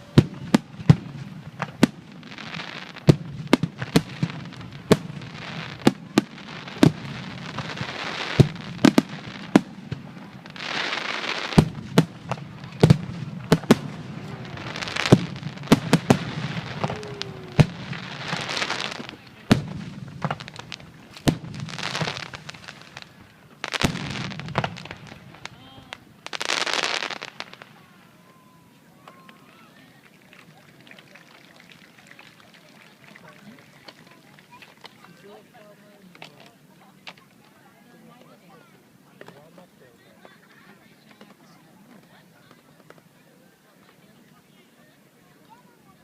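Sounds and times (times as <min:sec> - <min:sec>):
crackling hiss of fireworks: 0:00.0 - 0:46.0.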